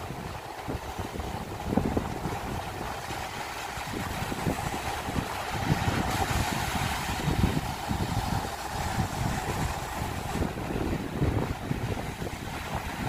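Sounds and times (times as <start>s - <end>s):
surf washing over rocks: 0.0s - 13.0s
wind buffeting microphone: 0.0s - 13.0s.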